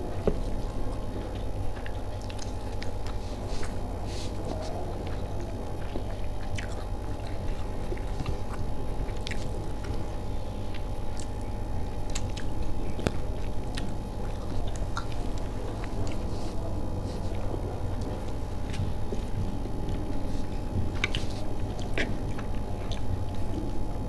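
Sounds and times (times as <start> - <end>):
person chewing food: 0.0 - 24.0
steady low hum: 0.0 - 24.0.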